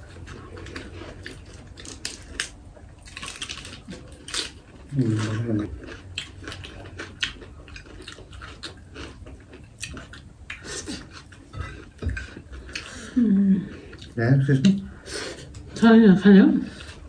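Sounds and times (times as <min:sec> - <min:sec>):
chewing and mouth noises: 0:00.0 - 0:15.8.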